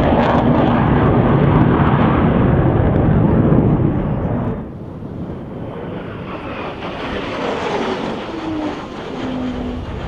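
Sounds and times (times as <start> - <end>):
jet flying past: 0.0 - 10.0.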